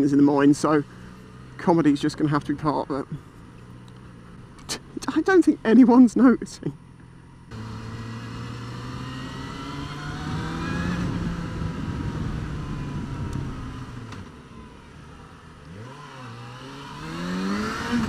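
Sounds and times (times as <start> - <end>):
motorcycle engine revving: 0.6 - 5.0, 7.5 - 18.0.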